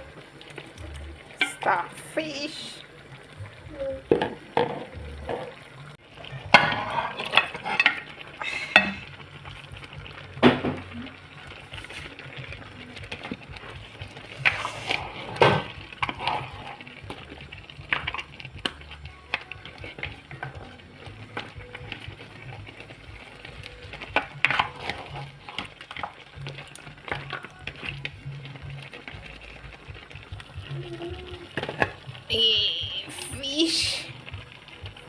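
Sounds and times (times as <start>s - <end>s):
utensil clinking and scraping pot: 0.0s - 2.6s, 6.2s - 35.0s.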